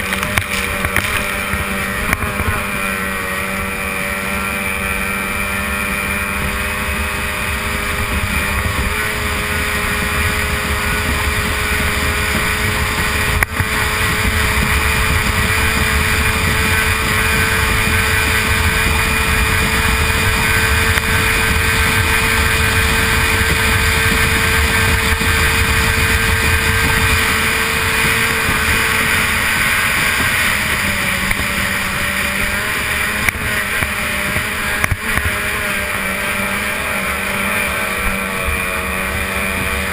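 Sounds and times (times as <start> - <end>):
racing outboard motor running: 0.0 - 39.9.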